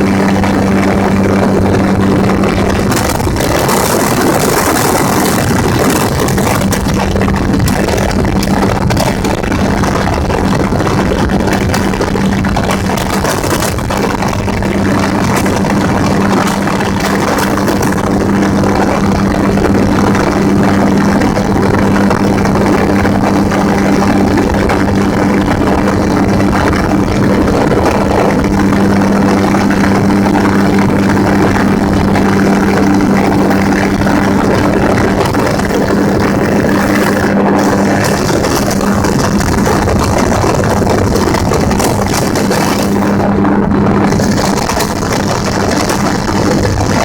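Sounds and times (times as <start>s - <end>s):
gyrocopter engine and propeller drone: 0.0s - 47.0s
rushing wind noise: 0.0s - 47.0s.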